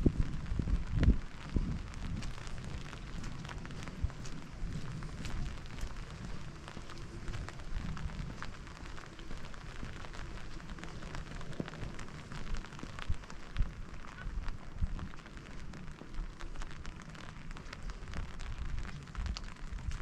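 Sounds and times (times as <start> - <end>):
rain patter: 0.0 - 20.0.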